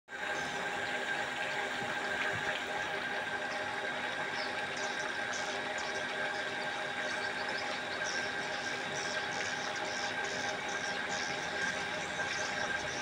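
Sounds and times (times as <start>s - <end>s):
steady machine hum: 0.1s - 13.0s.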